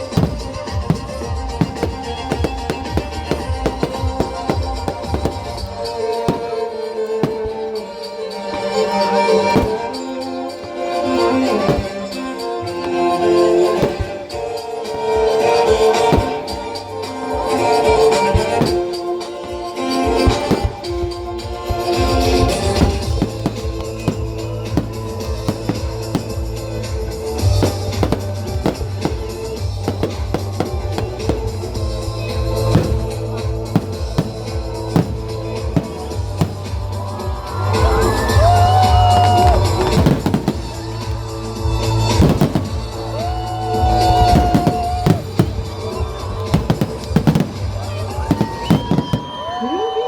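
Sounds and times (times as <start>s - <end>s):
sharp bangs: 0.0s - 16.8s, 21.8s - 38.2s, 39.7s - 41.2s, 42.0s - 49.4s
loud music with held melody: 0.0s - 50.0s.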